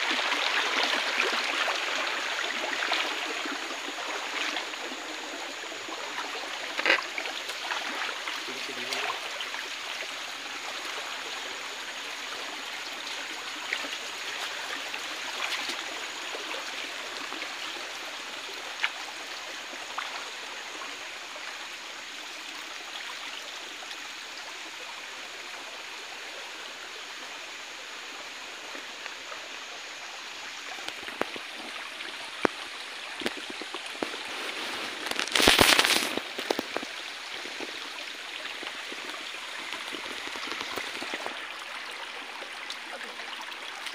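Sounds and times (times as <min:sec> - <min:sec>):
stream flowing over rocks: 0:00.0 - 0:43.9.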